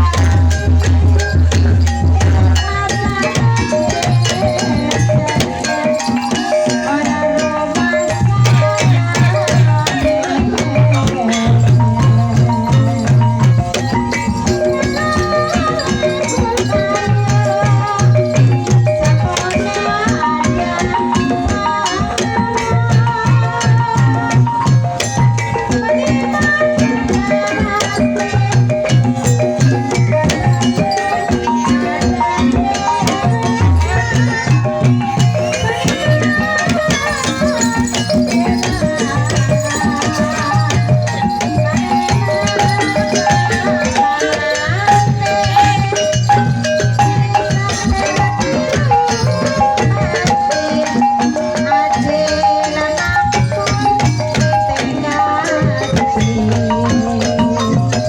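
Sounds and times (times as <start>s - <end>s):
pitched metallic notes: 0.0s - 19.5s, 25.0s - 58.0s
rattling percussion: 0.0s - 58.0s.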